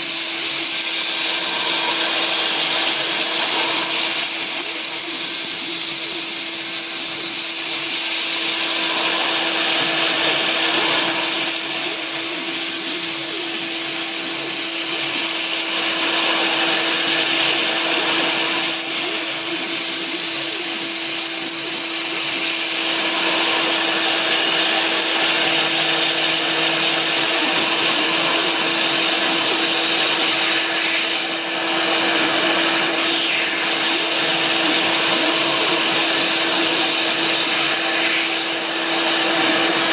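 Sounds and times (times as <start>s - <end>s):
hissy cutting noise: 0.0s - 39.9s
milling spindle hum: 7.7s - 39.9s.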